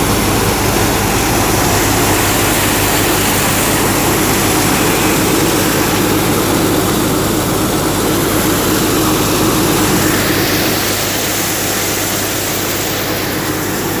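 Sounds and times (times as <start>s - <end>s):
threshing machine din: 0.0s - 14.0s
tractor diesel engine running: 0.0s - 14.0s.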